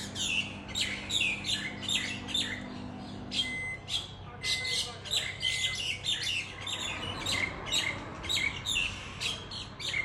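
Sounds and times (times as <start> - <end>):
lovebirds chirping and squawking: 0.0 - 10.0.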